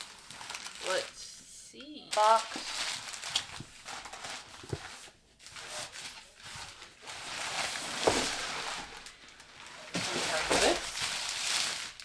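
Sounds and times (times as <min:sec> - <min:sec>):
packaging rustling and crinkling: 0:00.0 - 0:01.2, 0:02.1 - 0:12.0.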